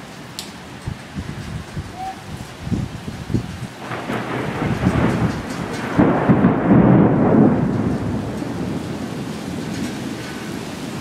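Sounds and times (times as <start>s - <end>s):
heavy rain: 0.0s - 11.0s
thunder rumbling: 1.2s - 11.0s.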